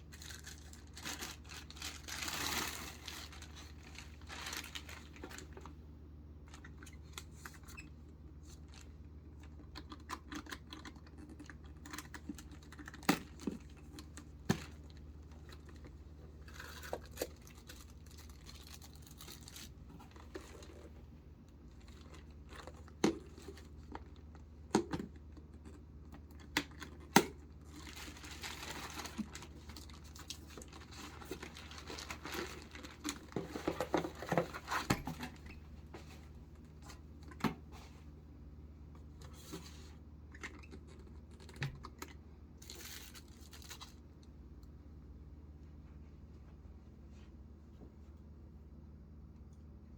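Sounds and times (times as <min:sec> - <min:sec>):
paper and plastic crinkling: 0:00.0 - 0:05.8, 0:06.4 - 0:38.1, 0:39.1 - 0:44.2.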